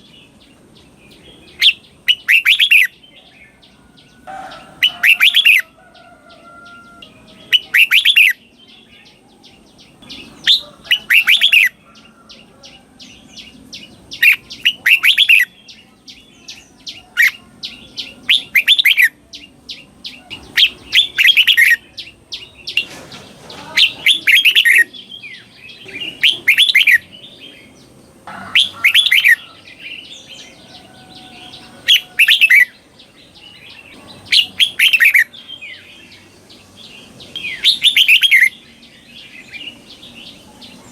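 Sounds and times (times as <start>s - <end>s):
bulbul singing: 0.0s - 40.9s
faint bird chirps: 0.0s - 40.9s.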